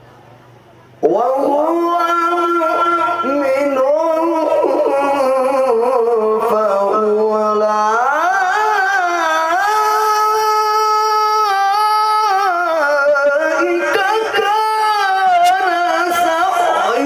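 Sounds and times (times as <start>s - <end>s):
person reciting melodically: 1.0s - 17.0s.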